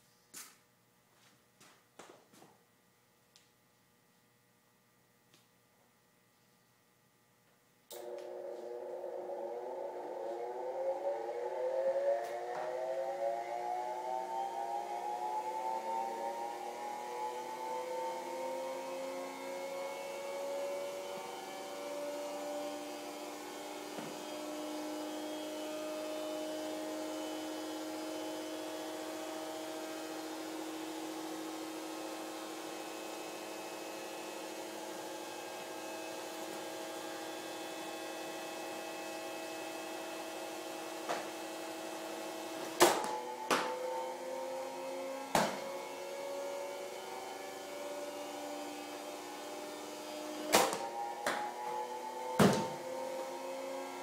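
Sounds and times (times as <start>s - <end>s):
machine hum with rising whine: 1.2s - 54.0s.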